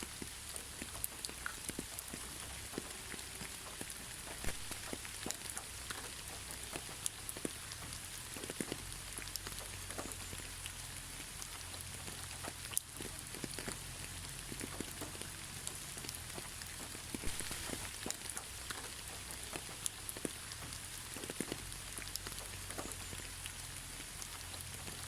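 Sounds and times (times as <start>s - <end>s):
gentle rain hiss: 0.0s - 25.0s
raindrops striking close by: 0.0s - 25.0s.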